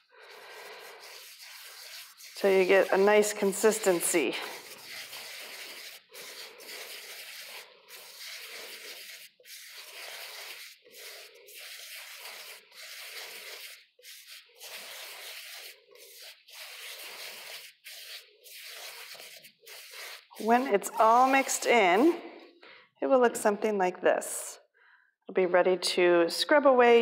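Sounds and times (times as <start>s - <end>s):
hands scrubbing gritty salt scrub: 0.0s - 22.2s.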